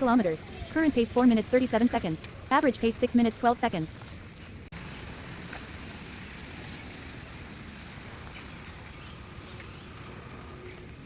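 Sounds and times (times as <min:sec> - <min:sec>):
low rumble of wind or traffic: 0:00.0 - 0:11.0.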